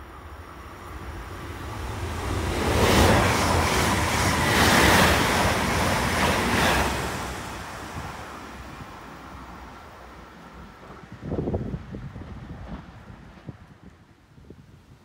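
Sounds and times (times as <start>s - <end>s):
train passing at speed: 0.0s - 14.4s.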